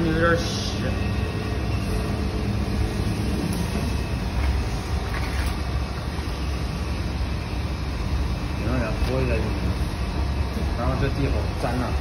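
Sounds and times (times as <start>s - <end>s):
low workshop rumble: 0.0s - 12.0s.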